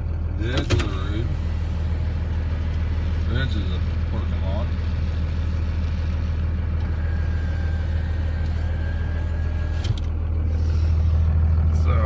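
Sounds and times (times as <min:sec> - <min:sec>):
truck engine and road drone: 0:00.0 - 0:12.0.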